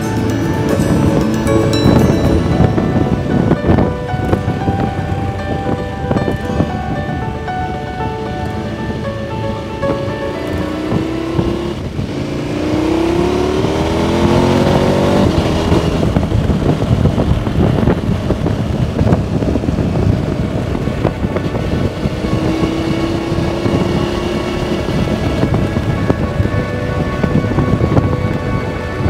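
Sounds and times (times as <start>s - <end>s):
motorcycle engine accelerating: 0.0s - 6.5s, 8.2s - 29.0s
wind rumble on microphone: 0.0s - 29.0s.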